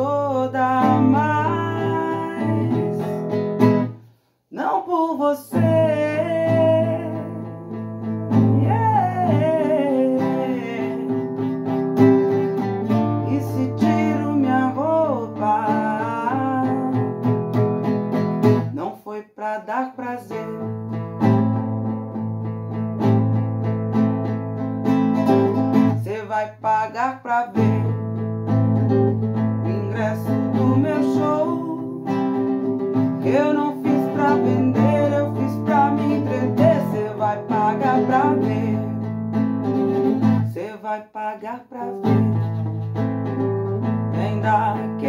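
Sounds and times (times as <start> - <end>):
woman singing: 0.0 - 3.6, 4.5 - 17.5, 18.5 - 22.0, 25.2 - 45.0
acoustic guitar strumming: 0.0 - 4.7, 5.4 - 18.9, 20.0 - 45.0.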